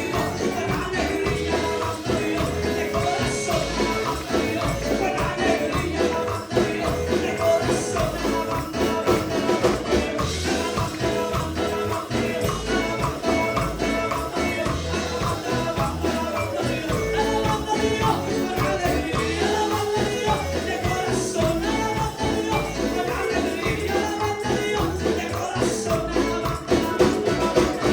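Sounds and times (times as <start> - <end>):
tambourine: 0.0 - 27.9
worship chorus singing: 0.0 - 27.9.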